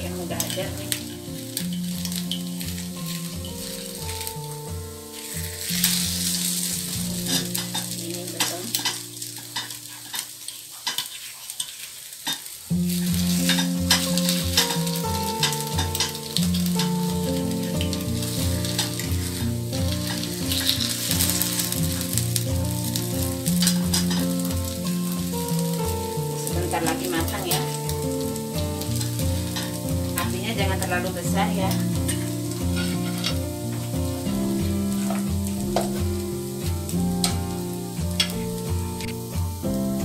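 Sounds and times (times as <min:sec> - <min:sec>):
metal spoon scraping a pan: 0:00.0 - 0:39.3
batter sizzling in a pan: 0:00.0 - 0:40.0.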